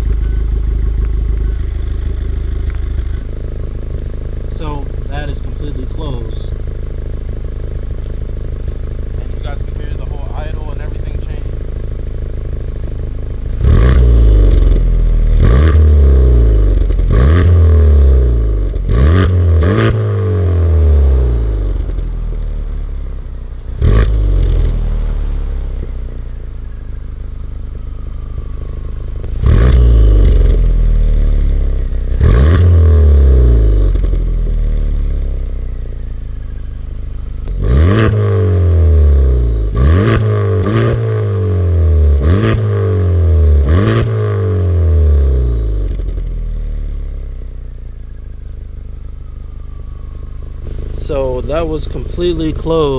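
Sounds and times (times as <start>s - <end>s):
car engine revving in blips: 0.0s - 9.9s, 12.2s - 48.6s.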